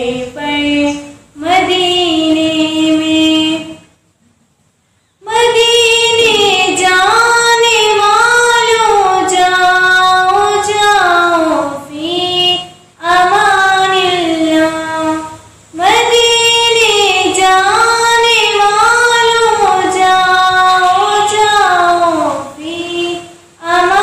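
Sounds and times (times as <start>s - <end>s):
girl singing unaccompanied: 0.0s - 3.9s, 5.2s - 24.0s.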